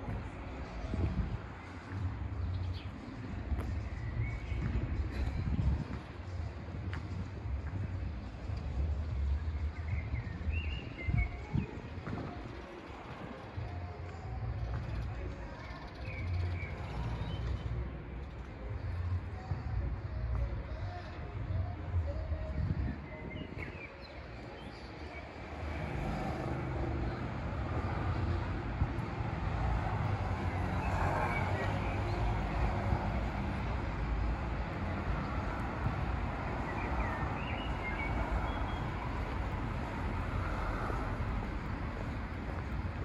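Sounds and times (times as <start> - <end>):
passing traffic rumble: 0.0 - 23.2, 23.9 - 43.0.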